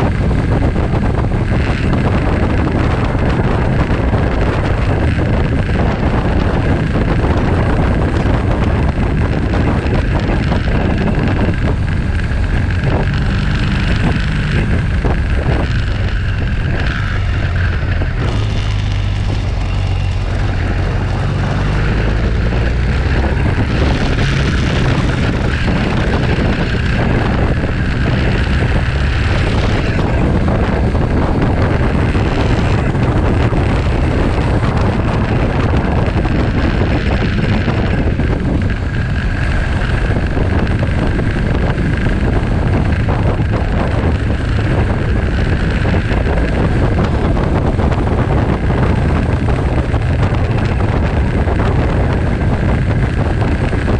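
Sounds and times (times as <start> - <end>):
motorcycle engine drone: 0.0 - 53.9
wind rush on microphone: 0.0 - 53.9.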